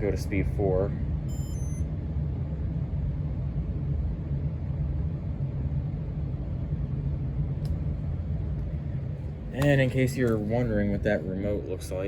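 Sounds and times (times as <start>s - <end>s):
ceiling fan running: 0.0s - 12.0s.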